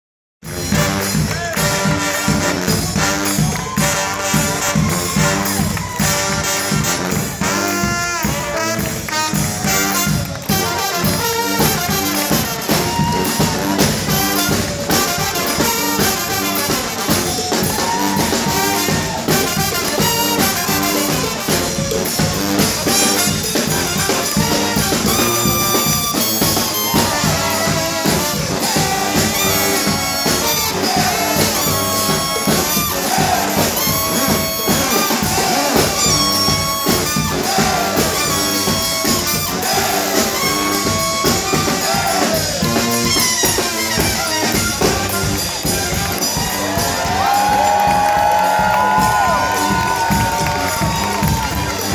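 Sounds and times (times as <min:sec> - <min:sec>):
brass band playing: 0:00.4 - 0:51.9
steady drum beat: 0:00.4 - 0:51.9.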